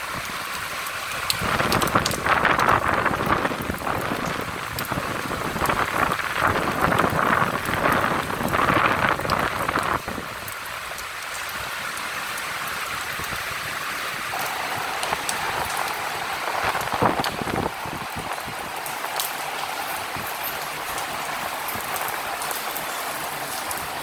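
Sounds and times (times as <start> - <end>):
rain falling: 0.0 - 24.0
single raindrops ticking: 0.2 - 24.0.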